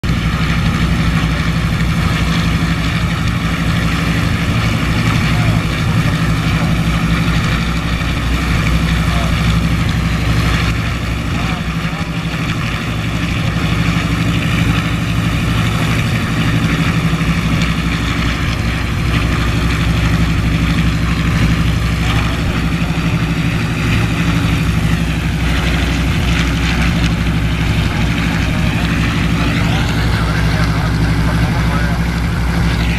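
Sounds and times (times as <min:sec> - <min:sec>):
radial aircraft engine running: 0:00.0 - 0:32.9.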